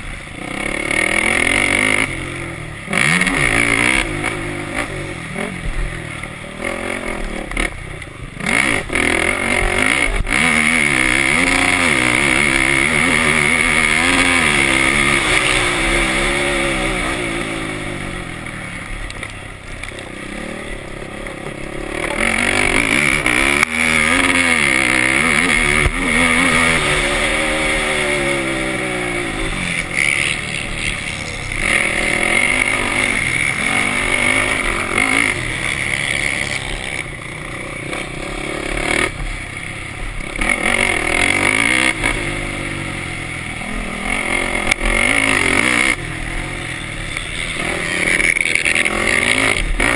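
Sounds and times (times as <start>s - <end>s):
quad engine revving: 0.0s - 49.9s.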